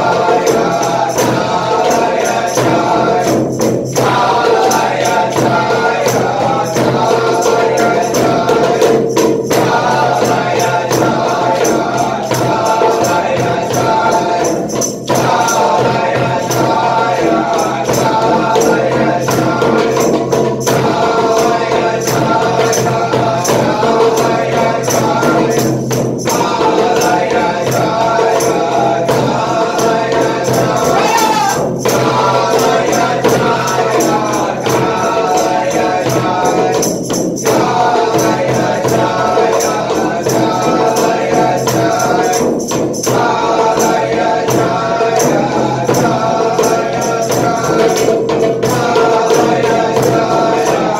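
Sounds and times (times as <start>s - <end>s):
jingling percussion: 0.0s - 50.9s.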